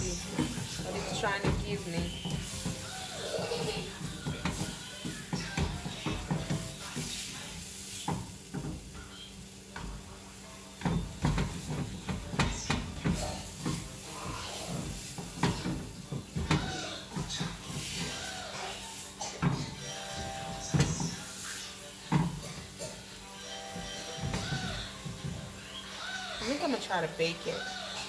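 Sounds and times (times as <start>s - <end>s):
turner scraping frying pan: 0.0s - 28.0s.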